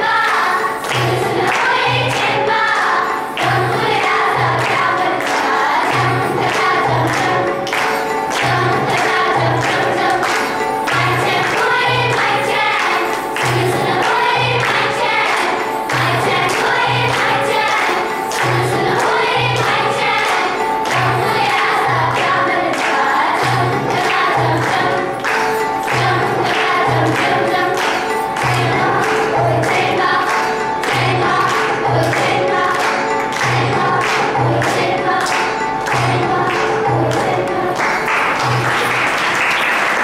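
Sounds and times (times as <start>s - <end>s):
choir singing: 0.0s - 40.0s.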